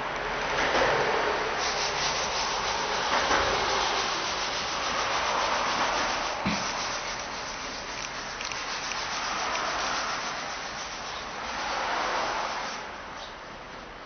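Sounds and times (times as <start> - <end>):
steady rubbing noise: 1.5 - 13.0.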